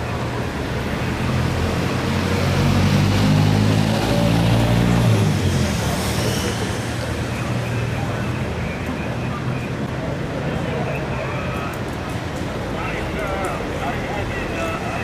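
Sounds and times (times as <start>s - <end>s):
street background noise: 0.0s - 15.0s.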